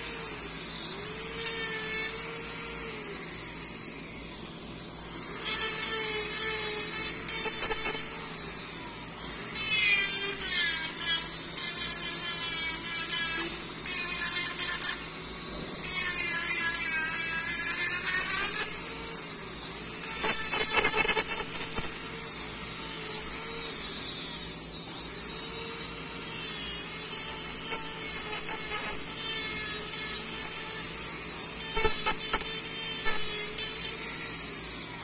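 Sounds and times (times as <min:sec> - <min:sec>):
dental handpiece whining while grinding: 0:00.0 - 0:35.0.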